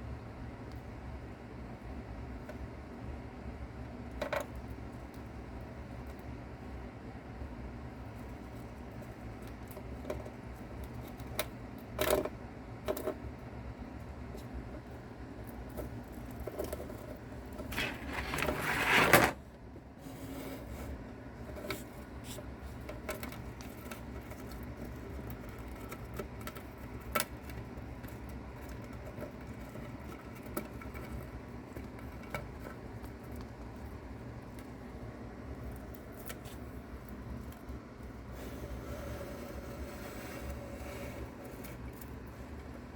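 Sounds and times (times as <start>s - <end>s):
steady low hum: 0.0s - 42.9s
faint clicks and scratches: 7.7s - 19.4s, 20.0s - 42.9s.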